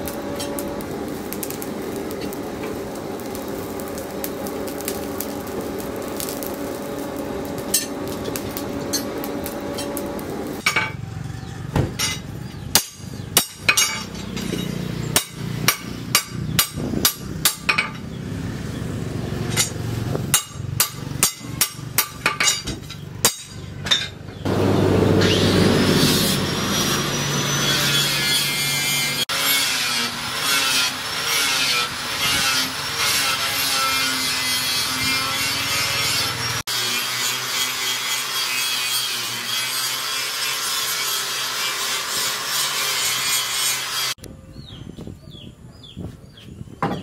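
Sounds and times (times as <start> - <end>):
power tool grinding: 0.0 - 18.7, 24.4 - 44.2.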